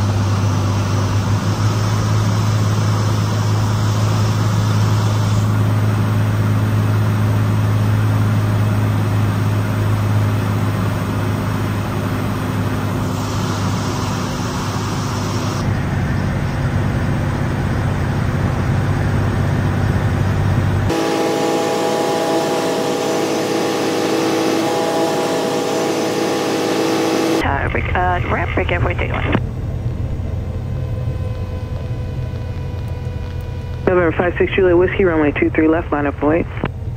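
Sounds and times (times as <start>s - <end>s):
aircraft engine and propeller hum: 0.0s - 36.9s.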